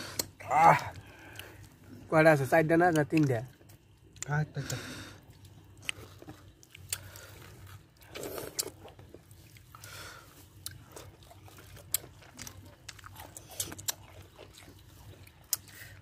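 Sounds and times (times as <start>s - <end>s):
person chewing crunchy food: 0.0s - 2.1s, 2.8s - 16.0s.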